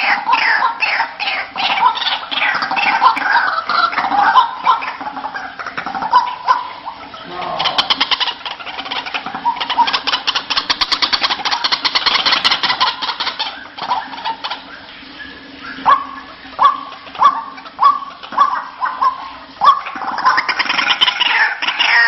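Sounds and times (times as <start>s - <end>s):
waterhen calling: 0.0s - 22.0s.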